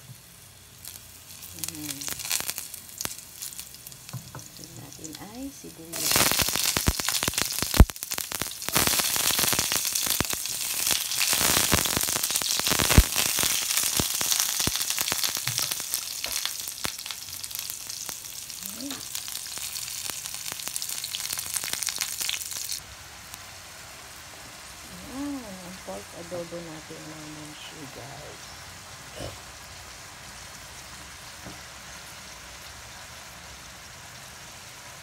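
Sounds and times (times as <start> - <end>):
onion sizzling in hot oil: 0.0 - 35.0.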